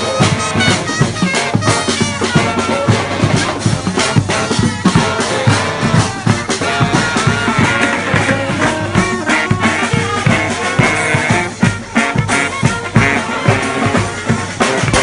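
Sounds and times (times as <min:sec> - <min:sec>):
brass band held horn notes: 0:00.0 - 0:15.0
driving drumbeat: 0:00.0 - 0:15.0.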